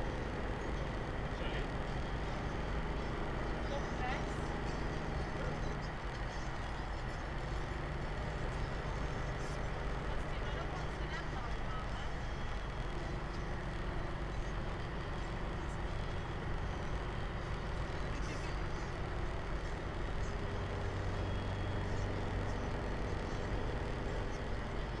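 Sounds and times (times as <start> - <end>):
car engine running: 0.0 - 25.0
road and wind noise: 0.0 - 25.0.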